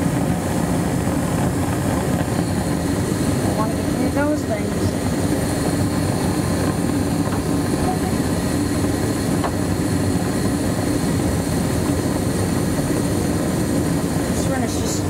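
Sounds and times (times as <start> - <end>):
low hum: 0.0 - 14.6
gas furnace rushing: 0.0 - 15.0.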